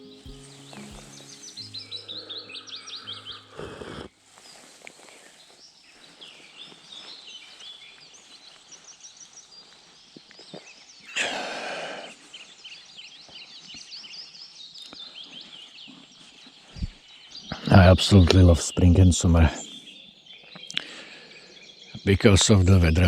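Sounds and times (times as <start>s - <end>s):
small birds chirping and trilling: 0.0s - 23.0s.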